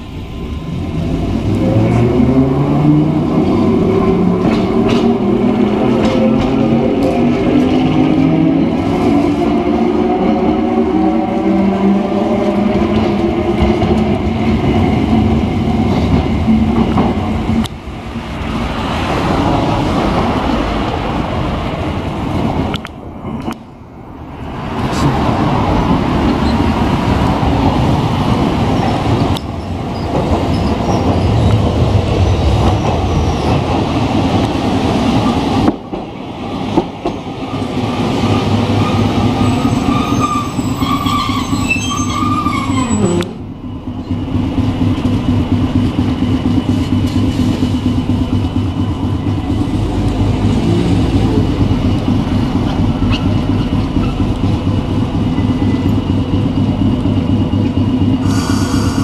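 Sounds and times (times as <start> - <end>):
tram rumbling on rails: 0.0 - 59.0.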